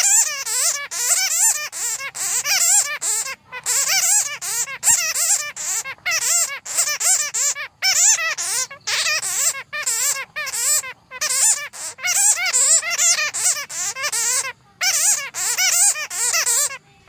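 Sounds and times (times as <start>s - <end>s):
bats chattering: 0.0s - 16.8s.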